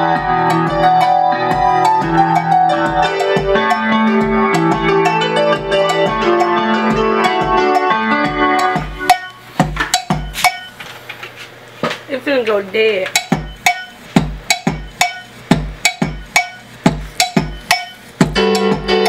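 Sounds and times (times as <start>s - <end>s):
programmed drum beat: 0.0s - 10.8s, 13.0s - 19.0s.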